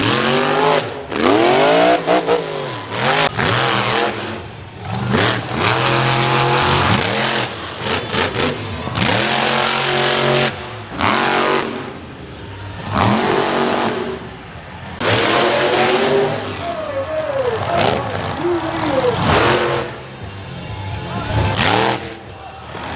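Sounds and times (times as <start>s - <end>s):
truck engines revving hard: 0.0s - 22.9s.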